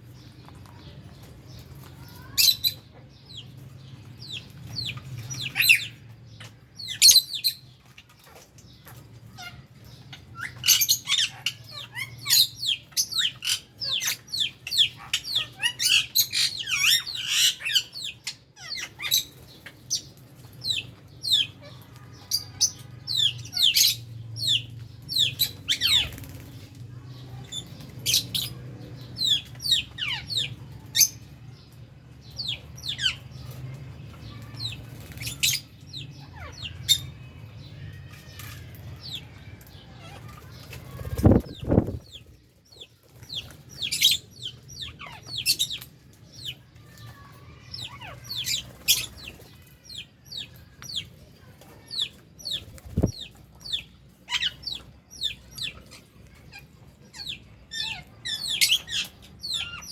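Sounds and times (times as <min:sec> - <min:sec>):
lovebirds and budgies chirping: 0:00.0 - 0:59.9.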